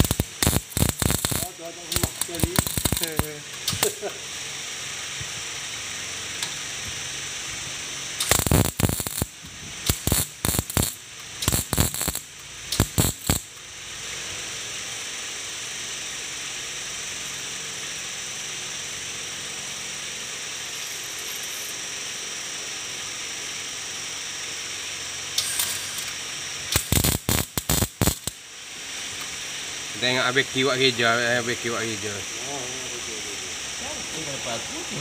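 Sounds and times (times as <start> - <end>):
arc welder crackling: 0.0 - 19.0, 20.0 - 35.0
steady hiss: 0.0 - 35.0.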